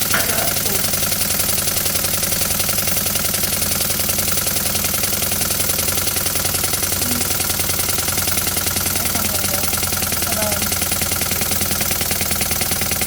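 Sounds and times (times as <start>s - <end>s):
steam engine running with knocks: 0.0s - 13.0s.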